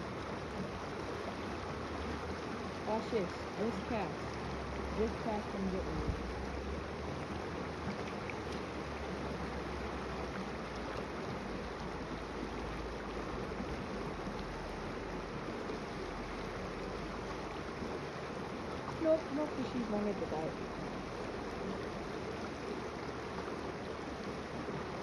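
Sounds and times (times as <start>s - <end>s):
creek water rushing over rocks: 0.0s - 25.0s.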